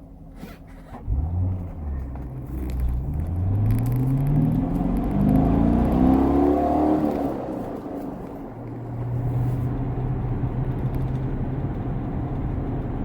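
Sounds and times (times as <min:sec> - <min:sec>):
car engine accelerating: 0:00.5 - 0:13.0.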